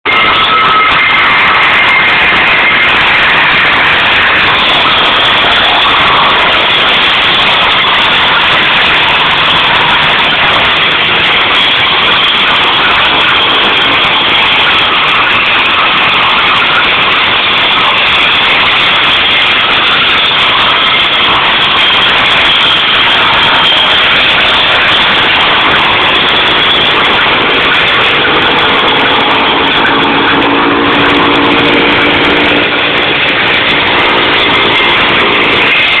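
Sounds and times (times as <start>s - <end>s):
steady engine tones: 0.0s - 36.0s
branch chipper running: 0.1s - 36.0s.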